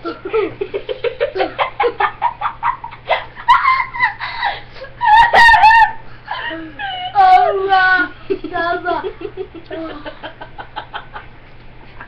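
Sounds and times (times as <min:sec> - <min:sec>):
children laughing: 0:00.0 - 0:11.3.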